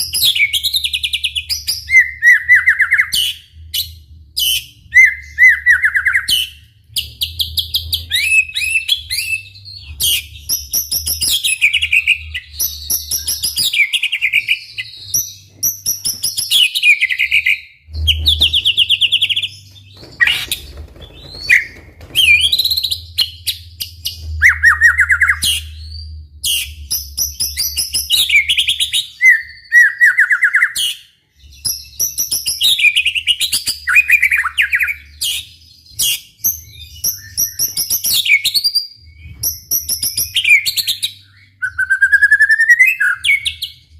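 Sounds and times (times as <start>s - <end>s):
bird singing whistles and trills: 0.0s - 43.9s.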